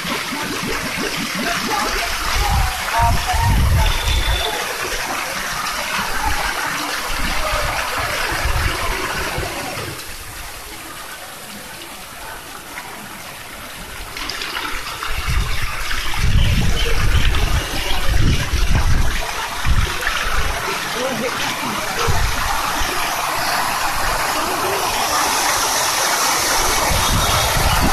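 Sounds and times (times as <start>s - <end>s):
fountain jets splashing into pool: 0.0s - 27.9s.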